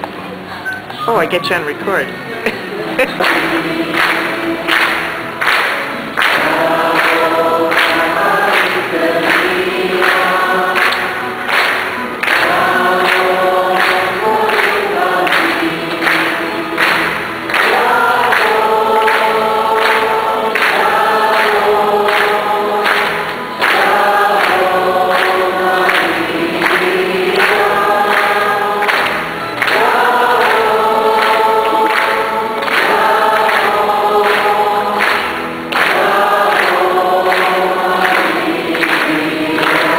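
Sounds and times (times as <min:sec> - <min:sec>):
congregation singing a hymn: 0:01.4 - 0:39.9.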